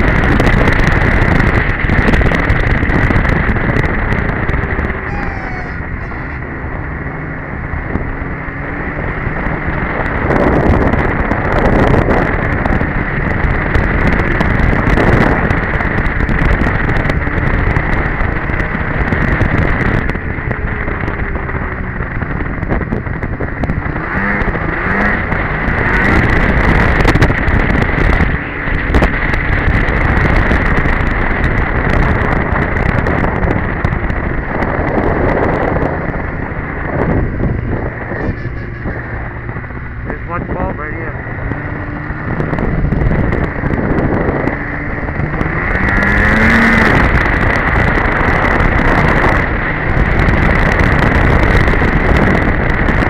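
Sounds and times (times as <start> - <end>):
snowmobile engine running: 0.0 - 53.0
wind buffeting microphone: 0.0 - 53.0.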